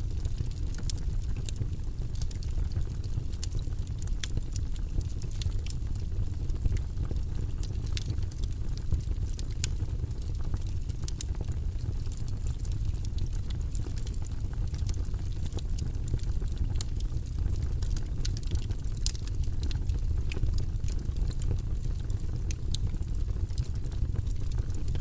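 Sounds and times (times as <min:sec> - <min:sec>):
fire crackling with pops: 0:00.0 - 0:25.0.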